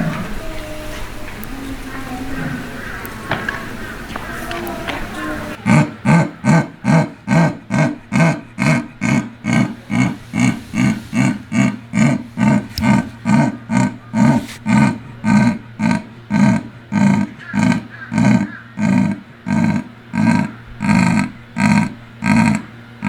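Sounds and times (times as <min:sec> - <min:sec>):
animal rhythmic calls: 0:00.0 - 0:23.0.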